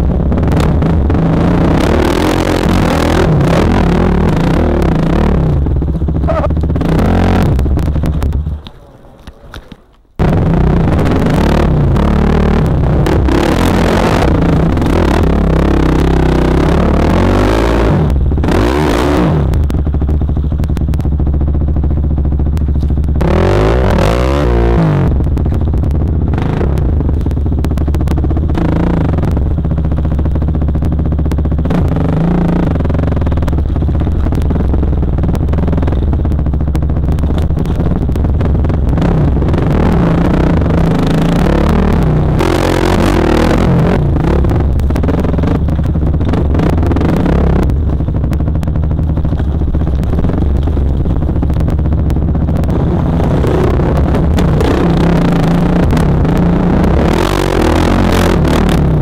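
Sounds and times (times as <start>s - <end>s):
dirt bike engine revving: 0.0s - 8.9s, 10.2s - 59.0s.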